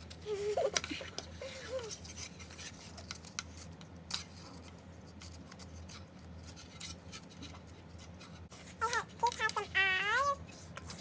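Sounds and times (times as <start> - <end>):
small parts clicking and scratching: 0.0 - 11.0.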